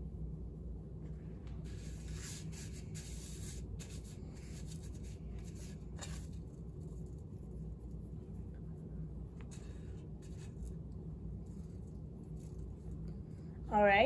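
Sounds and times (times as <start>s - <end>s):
low hum: 0.0s - 14.0s
string rustling in coffee grounds: 1.5s - 13.6s.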